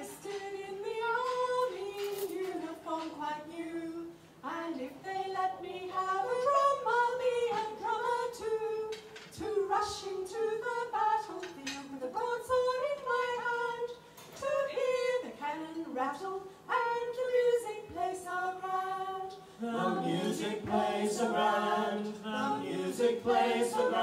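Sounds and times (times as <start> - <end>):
group singing unaccompanied: 0.0 - 15.4, 16.0 - 24.0.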